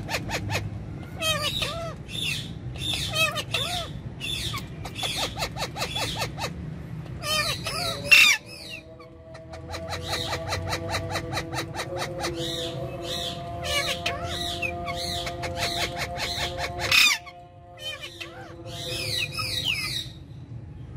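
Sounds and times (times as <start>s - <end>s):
parakeets squawking and chattering: 0.0s - 20.4s.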